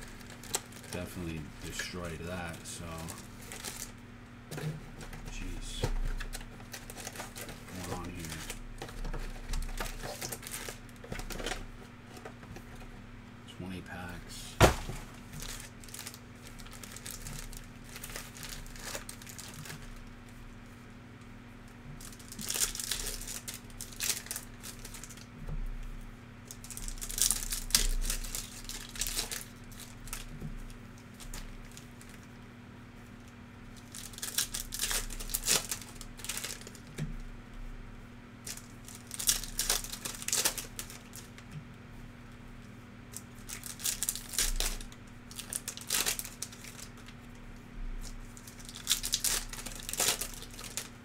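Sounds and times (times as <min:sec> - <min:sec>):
card pack wrappers crinkling and tearing: 0:00.0 - 0:12.8, 0:14.6 - 0:20.0, 0:22.0 - 0:25.3, 0:26.4 - 0:32.3, 0:33.7 - 0:37.0, 0:38.4 - 0:41.5, 0:43.1 - 0:51.0.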